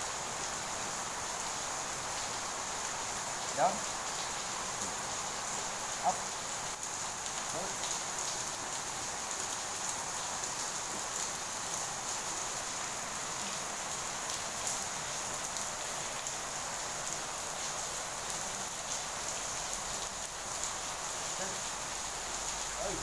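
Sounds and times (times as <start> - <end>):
rain-like hiss: 0.0 - 23.0.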